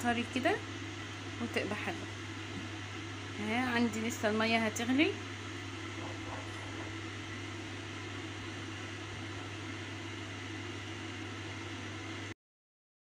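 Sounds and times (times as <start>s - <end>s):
water heating hiss: 0.0s - 12.3s
gas flame low hum: 0.0s - 12.4s.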